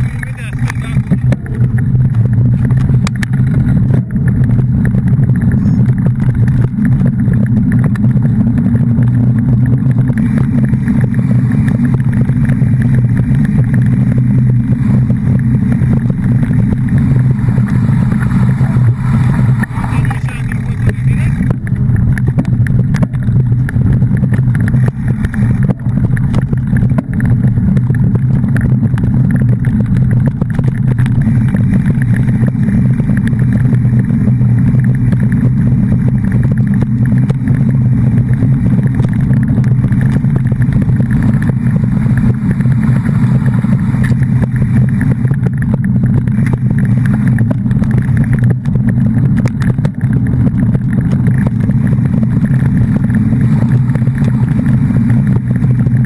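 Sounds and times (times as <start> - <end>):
vehicle running noise: 0.0 - 56.0.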